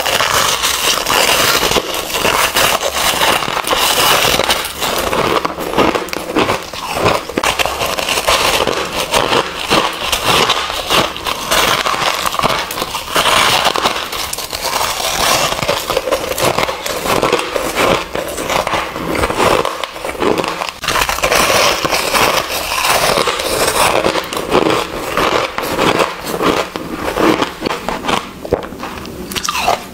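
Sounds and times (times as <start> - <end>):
crunching and chewing ice: 0.0 - 29.9.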